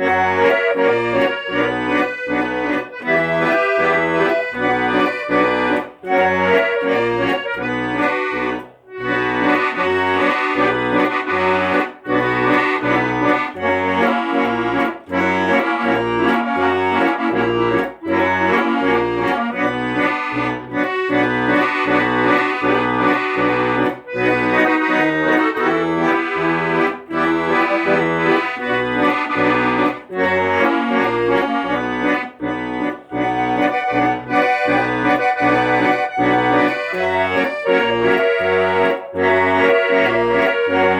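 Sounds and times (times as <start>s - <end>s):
instrumental melody with bass chords: 0.0s - 40.9s.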